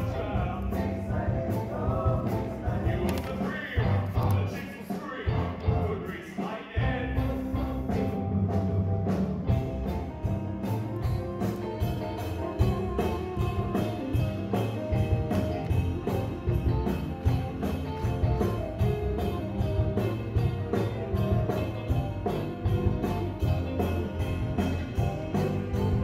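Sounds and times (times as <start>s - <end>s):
driving drum beat: 0.0s - 26.0s
rock and roll music: 0.0s - 26.0s.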